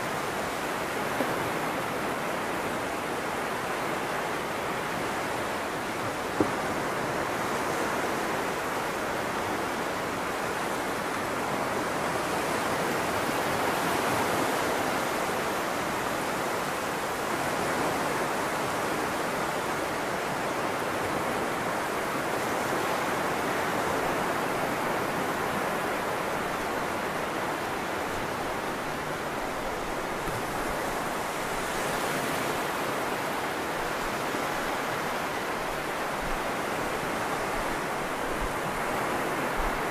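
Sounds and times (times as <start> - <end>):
waves washing up a beach: 0.0 - 39.9.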